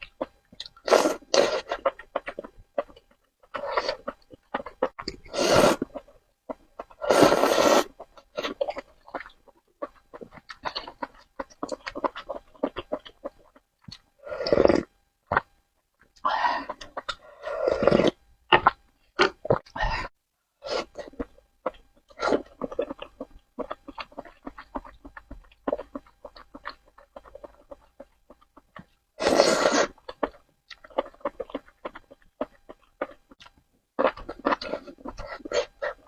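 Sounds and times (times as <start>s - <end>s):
wet chewing: 0.0s - 19.8s, 20.8s - 36.0s.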